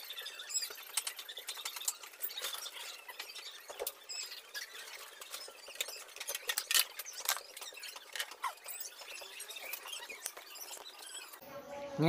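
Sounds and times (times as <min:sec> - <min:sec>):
wiring connectors clicking and rattling: 0:00.0 - 0:11.0.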